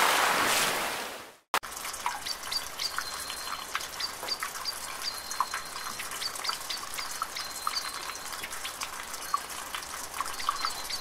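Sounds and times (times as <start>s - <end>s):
quiet water ambience: 0.0s - 11.0s
rushing water: 0.0s - 11.0s.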